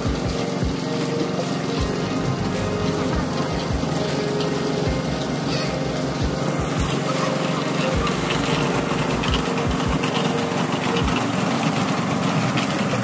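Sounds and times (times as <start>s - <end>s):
concrete mixer engine running: 0.0s - 13.0s.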